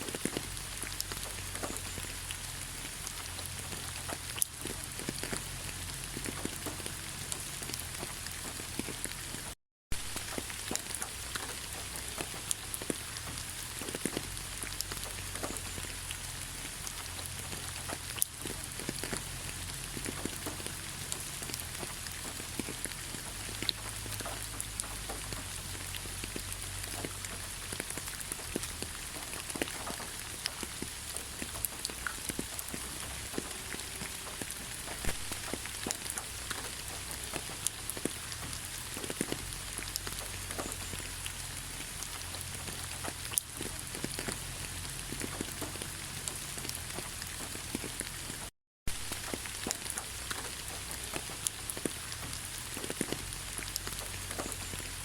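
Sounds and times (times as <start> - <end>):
rain falling: 0.0 - 55.0
raindrops tapping close by: 0.0 - 55.0.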